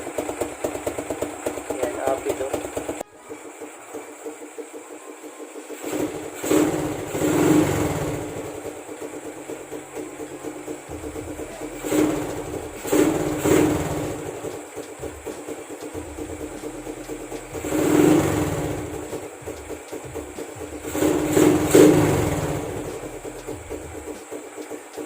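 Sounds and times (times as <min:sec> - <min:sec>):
motorcycle engine idling: 0:00.0 - 0:25.0
motorcycle throttle blips: 0:00.0 - 0:25.0.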